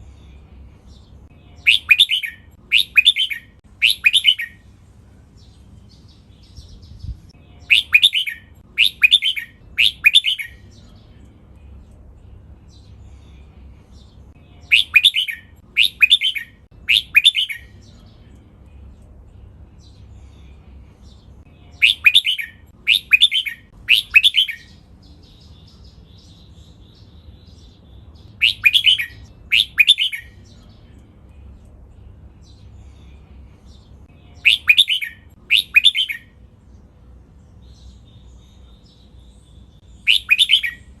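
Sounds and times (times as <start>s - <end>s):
bird singing clear notes: 0.2s - 4.6s, 5.4s - 36.4s, 37.4s - 41.0s.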